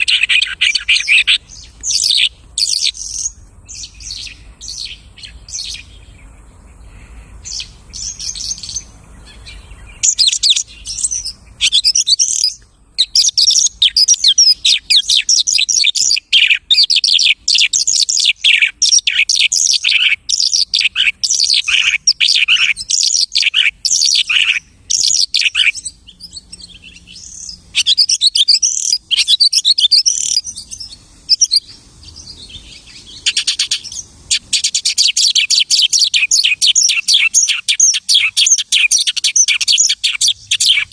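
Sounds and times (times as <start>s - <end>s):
lark singing rapid high notes: 0.0s - 5.9s, 7.4s - 40.9s.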